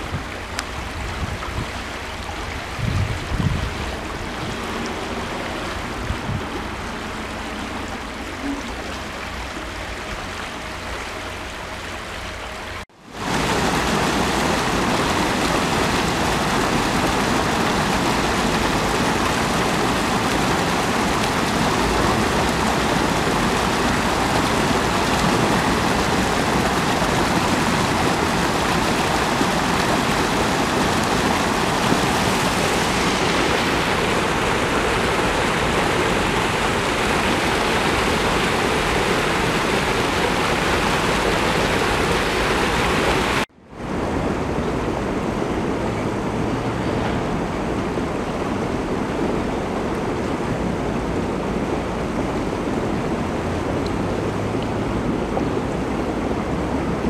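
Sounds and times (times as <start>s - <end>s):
stream running over stones: 0.0s - 43.5s, 51.1s - 56.6s
water rushing over weir: 0.0s - 57.0s.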